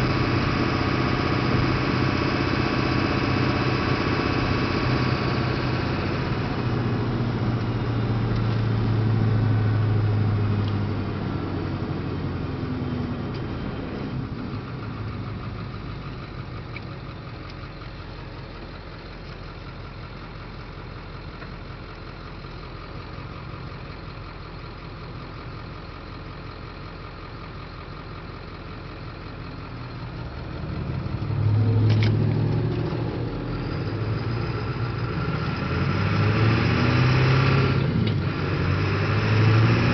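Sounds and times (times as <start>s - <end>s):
diesel truck engine driving: 0.0s - 39.9s.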